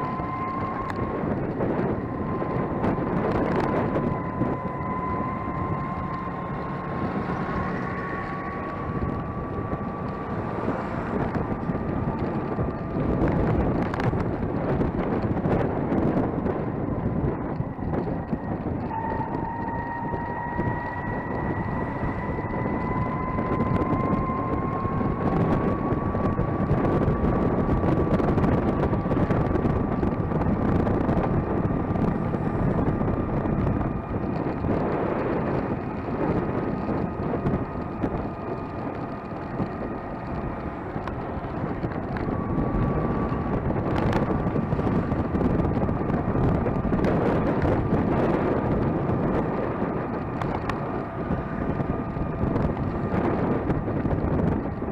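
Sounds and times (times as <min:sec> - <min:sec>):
electric motor whine: 0:00.0 - 0:54.9
road noise: 0:00.0 - 0:54.9
wind buffeting microphone: 0:00.0 - 0:54.9.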